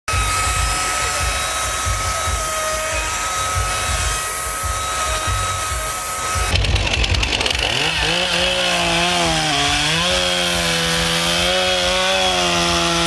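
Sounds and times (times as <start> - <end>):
chainsaw cutting wood: 0.1 - 13.0.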